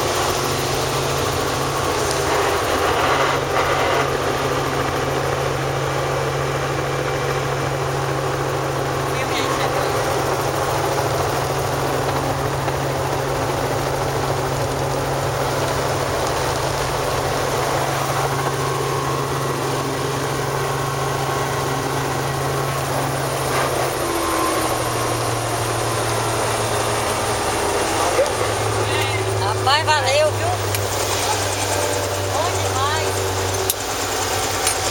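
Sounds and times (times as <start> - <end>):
helicopter drone: 0.0 - 34.9.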